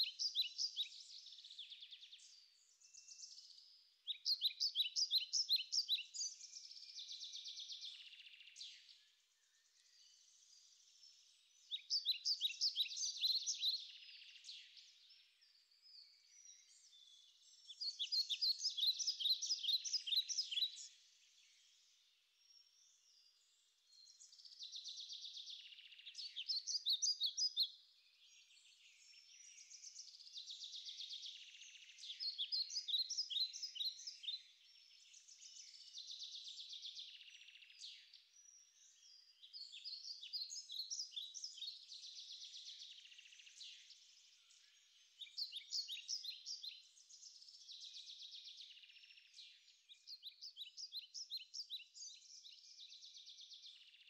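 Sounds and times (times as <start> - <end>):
small songbird singing: 0.0 - 54.0.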